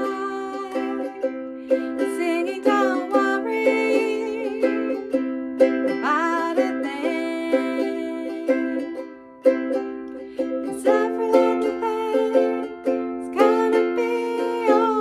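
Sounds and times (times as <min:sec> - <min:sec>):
ukulele strumming: 0:00.0 - 0:15.0.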